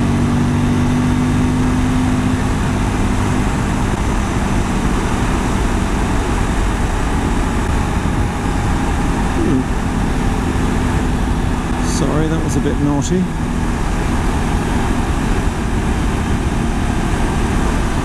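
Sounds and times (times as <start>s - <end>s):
motorcycle engine cruising: 0.0s - 18.0s
wind rushing over microphone: 0.0s - 18.0s.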